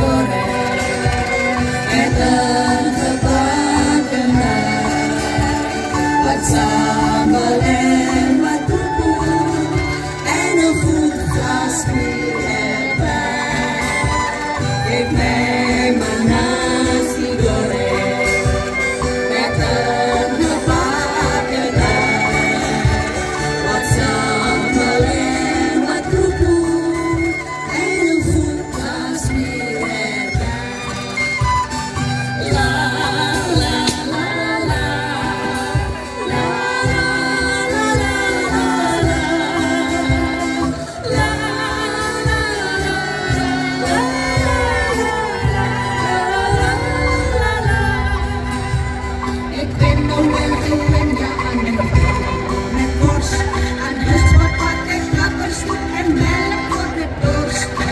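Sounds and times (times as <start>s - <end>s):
angklung ensemble playing: 0.0s - 57.9s
cajon beat: 0.0s - 57.9s
guitar: 0.0s - 57.9s
woman singing: 0.0s - 57.9s.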